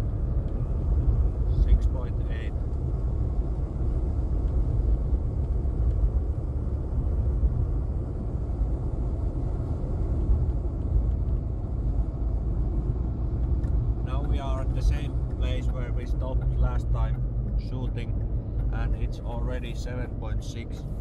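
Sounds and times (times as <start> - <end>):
car cabin road noise: 0.0 - 21.0
diesel engine: 0.0 - 21.0.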